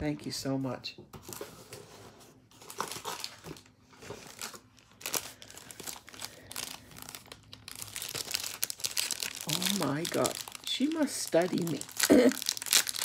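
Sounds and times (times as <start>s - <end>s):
paper packaging crinkling: 2.5s - 13.0s.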